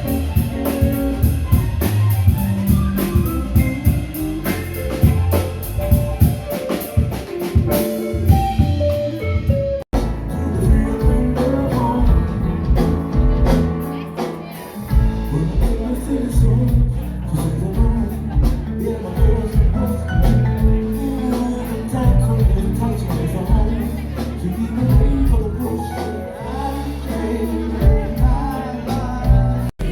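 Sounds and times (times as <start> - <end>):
rock band music: 0.0 - 29.9
steady bass line: 0.0 - 29.9.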